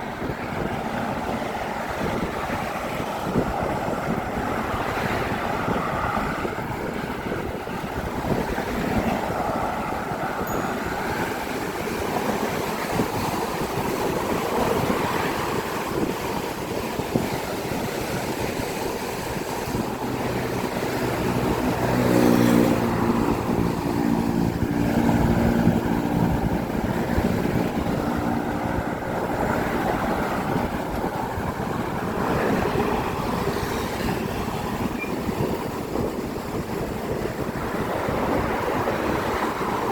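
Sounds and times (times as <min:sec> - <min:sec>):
engine hum: 0:00.0 - 0:39.9
road traffic rushing: 0:00.0 - 0:39.9.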